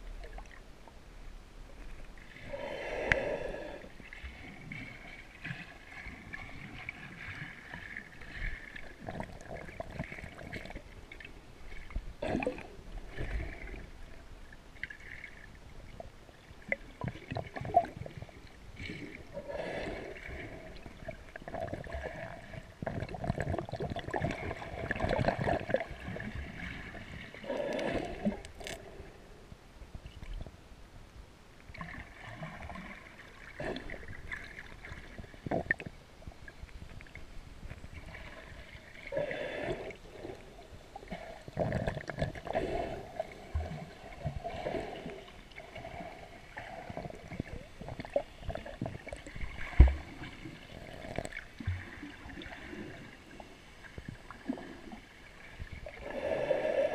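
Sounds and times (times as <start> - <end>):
water sloshing underwater: 0.0 - 56.9.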